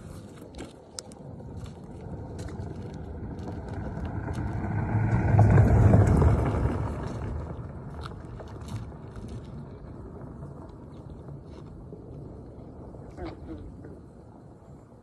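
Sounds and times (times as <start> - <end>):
car passing on gravel: 0.0 - 13.1.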